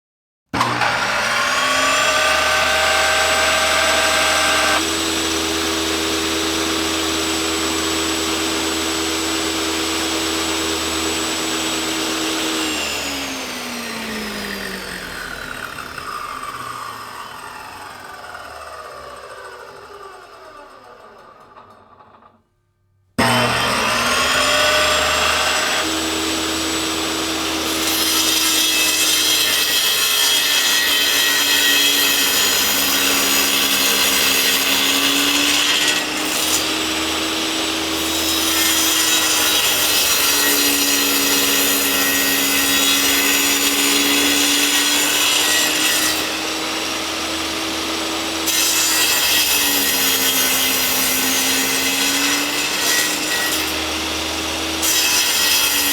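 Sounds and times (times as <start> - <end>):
table saw whining while sawing wood: 0.5 - 22.4, 23.2 - 55.9.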